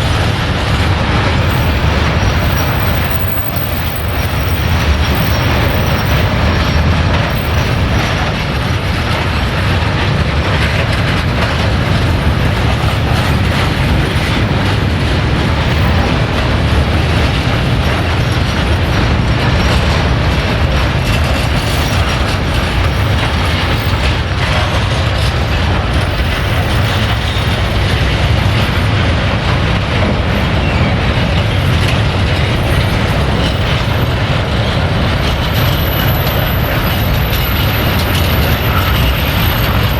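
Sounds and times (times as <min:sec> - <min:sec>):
train wheels rumbling on rails: 0:00.0 - 0:39.9
wheels clattering over track: 0:00.0 - 0:39.9.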